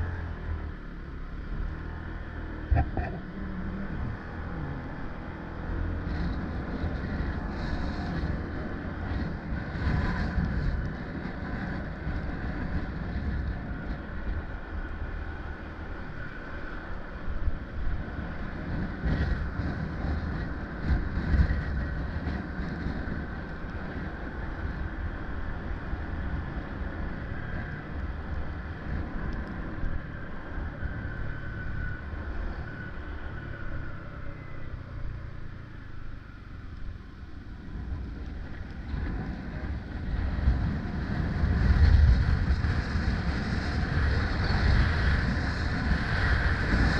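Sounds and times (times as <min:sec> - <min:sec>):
vehicle drone: 0:00.0 - 0:46.9
wind rumbling on microphone: 0:00.0 - 0:46.9.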